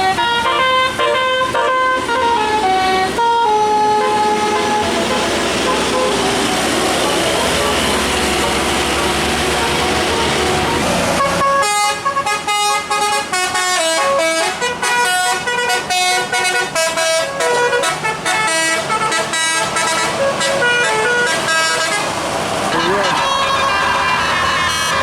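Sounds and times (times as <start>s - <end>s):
multi-tone bus horn tune: 0.0s - 25.0s.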